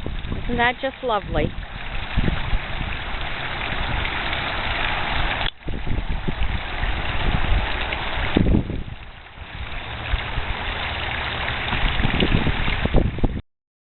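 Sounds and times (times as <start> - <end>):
water fountain splashing: 0.0 - 13.4.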